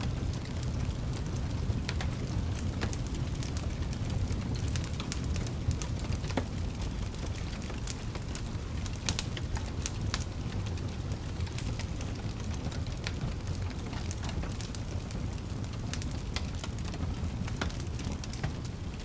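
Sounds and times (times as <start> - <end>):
low rumble of flame: 0.0 - 19.0
wood fire crackling: 0.0 - 19.0.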